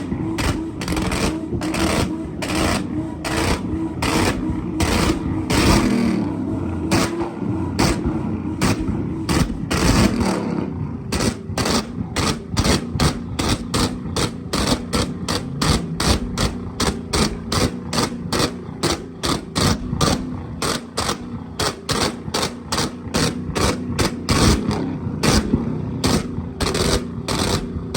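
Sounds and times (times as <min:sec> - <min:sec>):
car engine running: 0:00.0 - 0:27.9
exhaust banging and popping: 0:00.0 - 0:27.9.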